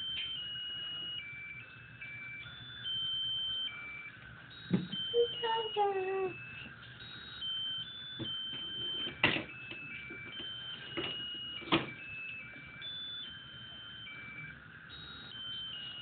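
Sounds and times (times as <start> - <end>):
high-pitched electronic beeping melody: 0.0 - 16.0.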